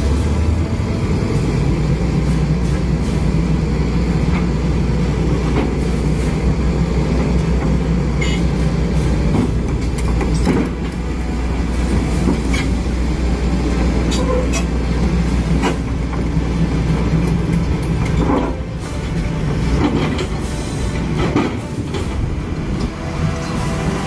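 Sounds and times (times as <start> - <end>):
large engine rumbling: 0.0 - 24.0.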